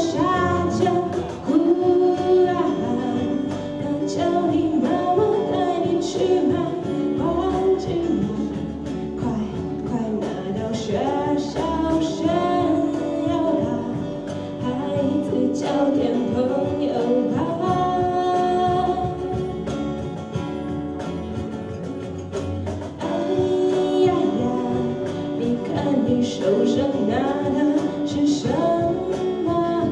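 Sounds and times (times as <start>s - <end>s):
person singing: 0.0s - 20.4s, 22.9s - 29.9s
drum hits: 0.0s - 29.9s
live band music: 0.0s - 29.9s.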